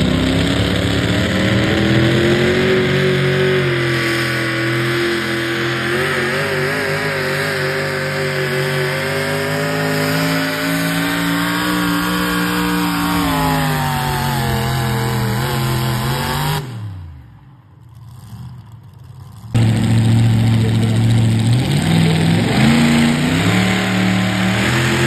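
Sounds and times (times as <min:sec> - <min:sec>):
pulling truck engine at full throttle: 0:00.0 - 0:25.0.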